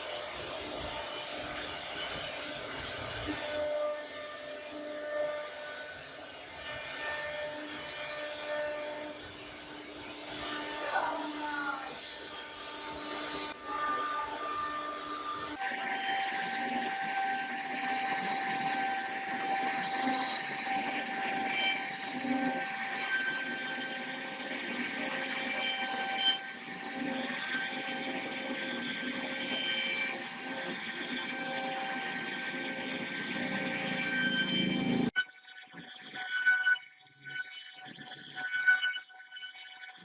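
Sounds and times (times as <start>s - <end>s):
router spindle cutting wood: 0.0s - 36.8s.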